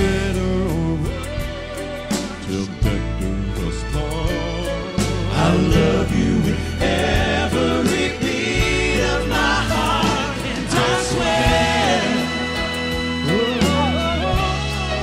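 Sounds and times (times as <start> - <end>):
bass guitar: 0.0 - 15.0
drums with cymbal hits: 0.0 - 15.0
male vocal quartet singing gospel: 0.0 - 15.0
piano: 0.0 - 15.0.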